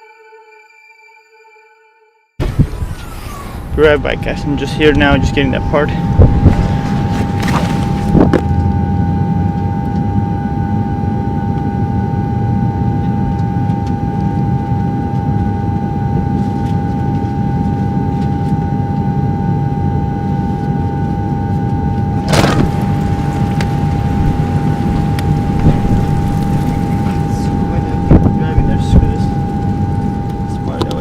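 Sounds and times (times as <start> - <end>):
low mechanical rumble with whine: 2.4 - 31.0.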